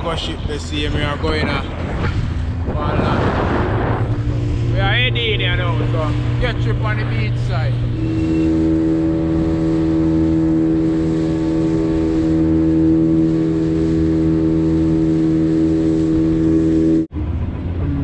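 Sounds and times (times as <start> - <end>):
outboard motor humming: 0.0 - 18.0.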